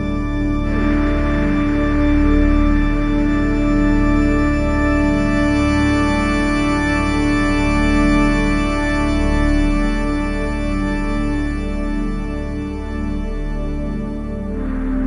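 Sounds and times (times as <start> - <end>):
sustained organ-like chords: 0.0 - 15.0.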